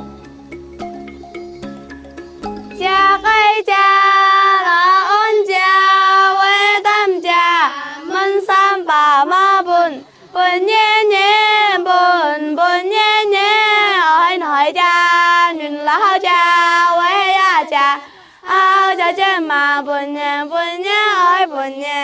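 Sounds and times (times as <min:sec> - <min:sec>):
girls singing folk song: 0:02.7 - 0:22.0.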